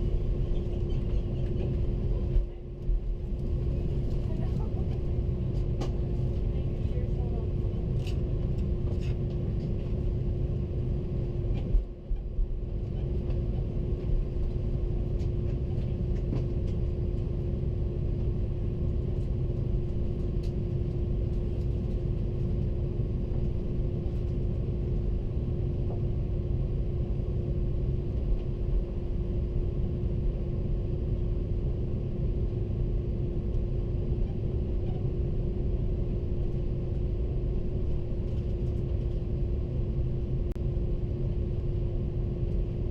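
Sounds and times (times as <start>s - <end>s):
airplane cabin rumble: 0.0s - 42.9s.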